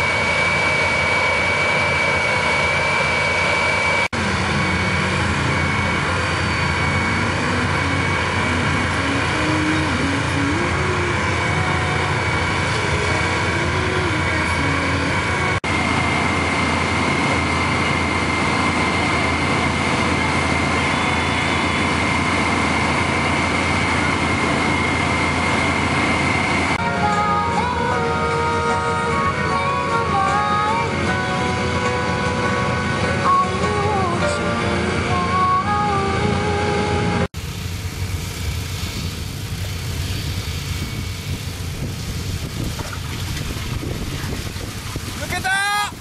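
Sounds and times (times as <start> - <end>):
drilling machinery drone: 0.0 - 46.0
high steady whine: 0.0 - 46.0.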